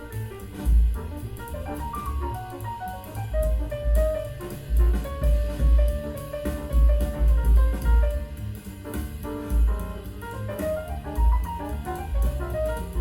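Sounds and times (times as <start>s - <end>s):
deep bass notes: 0.0s - 13.0s
jazz instrumental music: 0.0s - 13.0s.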